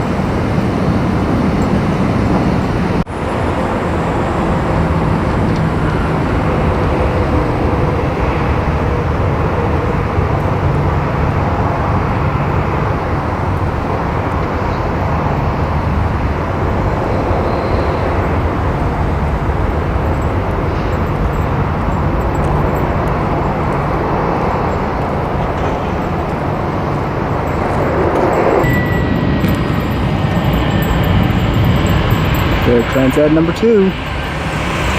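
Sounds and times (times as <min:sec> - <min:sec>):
vehicle rumble with engine hum: 0:00.0 - 0:34.9.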